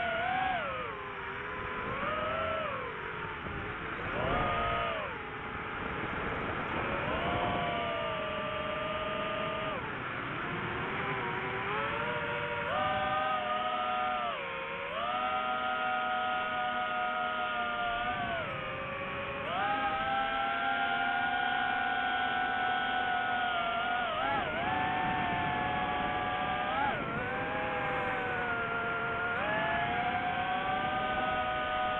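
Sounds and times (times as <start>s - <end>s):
drone motors whining: 0.0s - 31.9s
steady rushing noise: 0.0s - 31.9s.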